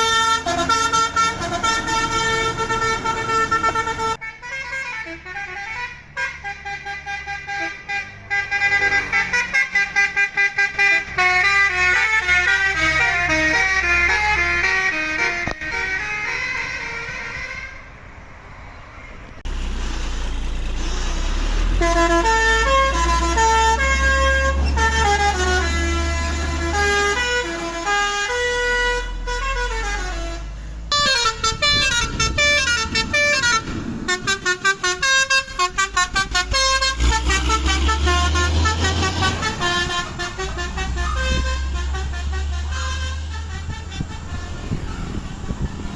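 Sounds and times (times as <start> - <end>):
multi-tone truck horn melody: 0.0 - 17.8, 20.8 - 45.7
truck engine rumble: 0.0 - 45.9.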